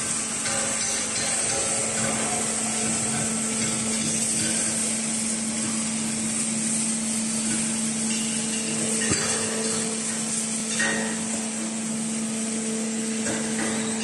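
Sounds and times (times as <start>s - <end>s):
hydraulic power unit humming: 0.0s - 14.0s.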